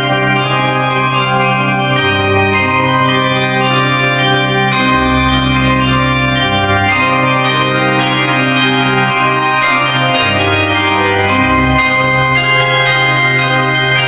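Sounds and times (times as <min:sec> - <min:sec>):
organ music: 0:00.0 - 0:14.0.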